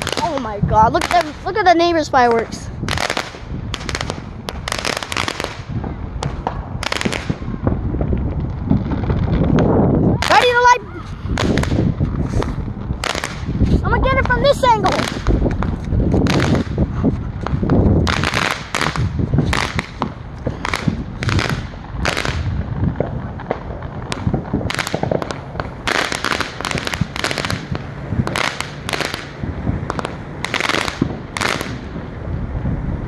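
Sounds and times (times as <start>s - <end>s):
fireworks crackling bursts: 0.0s - 33.0s.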